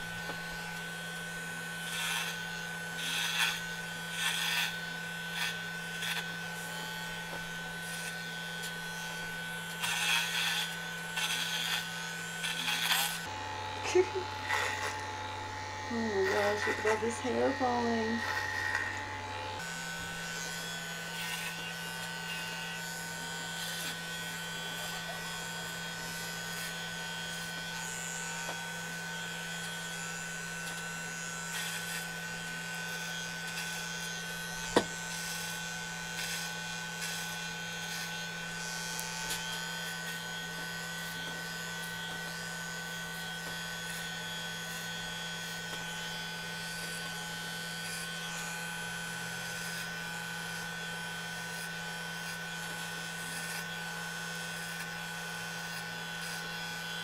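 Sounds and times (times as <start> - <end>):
electric hair clippers humming: 0.0 - 57.0.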